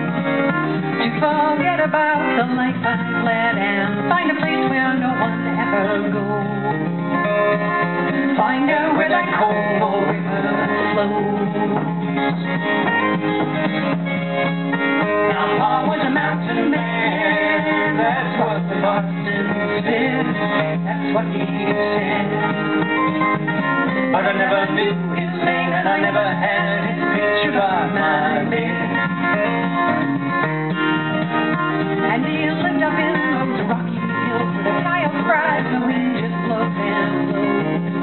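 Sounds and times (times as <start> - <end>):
acoustic guitars strummed and picked: 0.0 - 38.0
person singing: 0.8 - 13.1, 15.0 - 23.0, 24.1 - 29.6, 31.4 - 38.0.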